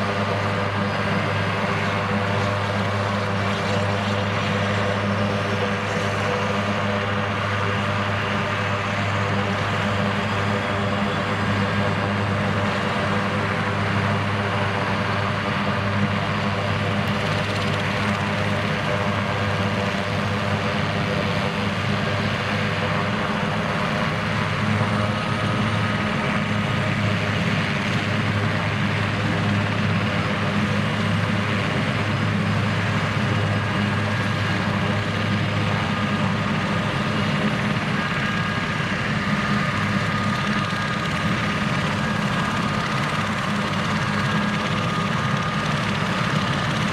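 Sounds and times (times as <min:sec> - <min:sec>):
helicopter rotors low hum: 0:00.0 - 0:46.9
high turbine whine: 0:00.0 - 0:46.9.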